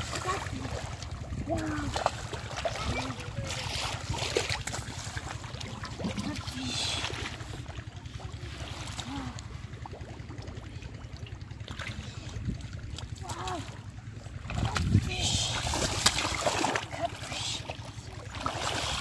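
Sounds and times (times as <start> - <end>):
steady low rumble: 0.0 - 19.0
water sloshing and splashing: 0.0 - 19.0.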